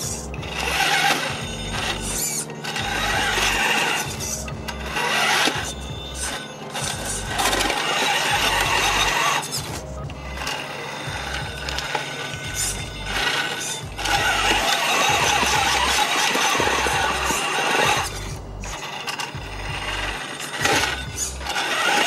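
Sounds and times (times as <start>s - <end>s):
background music with bass line: 0.0s - 22.0s
toy car electric motor whirring: 0.0s - 22.0s.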